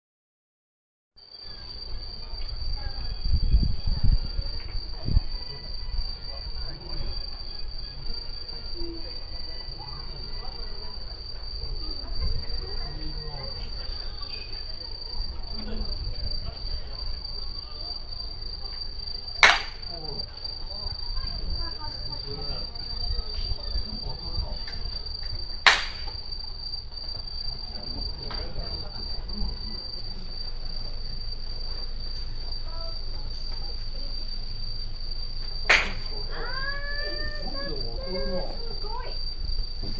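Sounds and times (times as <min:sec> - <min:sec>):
crickets trilling: 0:01.2 - 0:39.9.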